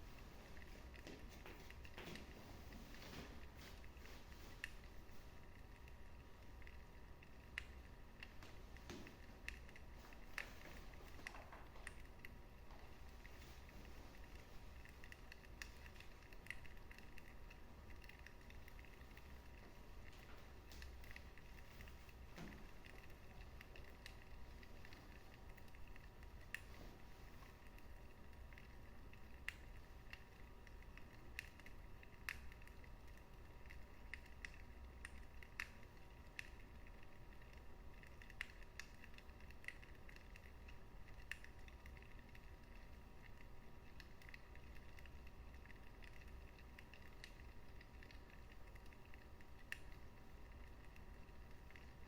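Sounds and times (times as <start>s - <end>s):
low steady rumble: 0.0s - 52.0s
wood fire crackling and popping: 0.0s - 52.0s.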